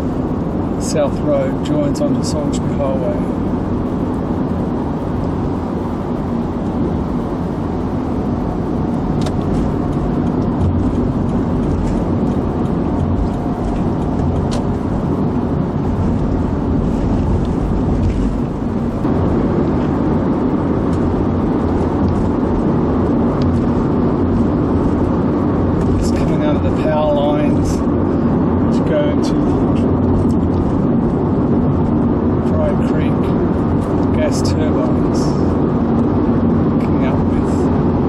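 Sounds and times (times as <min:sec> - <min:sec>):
car road noise rumble: 0:00.0 - 0:38.0.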